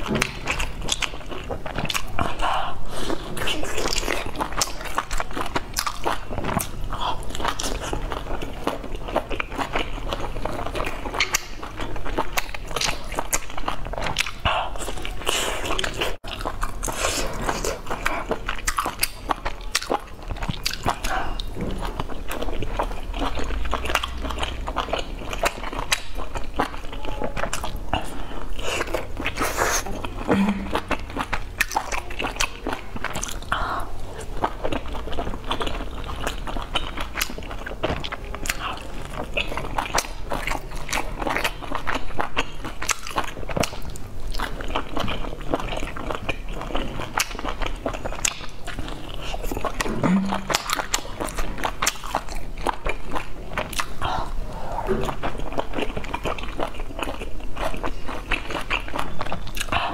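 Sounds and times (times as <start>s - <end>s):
chewing with mouth clicks: 0.0s - 59.9s.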